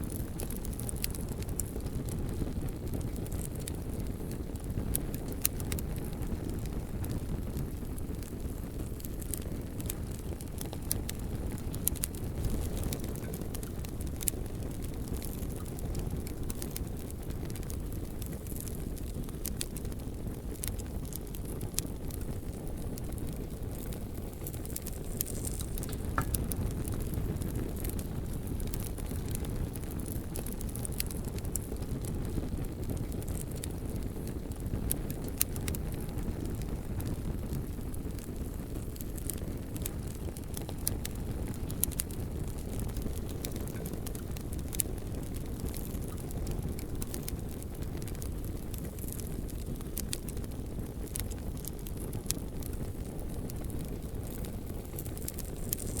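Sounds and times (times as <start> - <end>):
bonfire flame rumble: 0.0 - 56.0
burning logs crackling and popping: 0.0 - 56.0.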